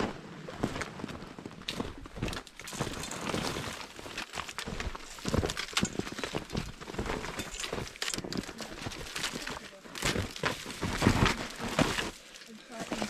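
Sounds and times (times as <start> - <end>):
footsteps crunching through snow: 0.0 - 13.0
rustling: 2.2 - 13.0.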